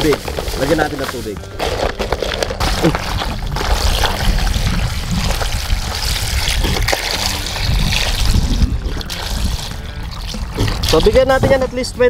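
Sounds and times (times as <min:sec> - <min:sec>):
water pouring onto ice cubes: 0:00.0 - 0:11.2.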